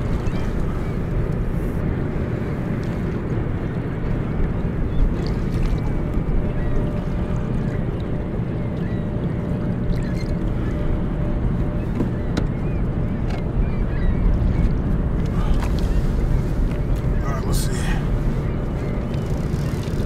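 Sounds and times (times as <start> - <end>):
water lapping around kayak: 0.0 - 20.0
wind rumble on microphone: 0.0 - 20.0.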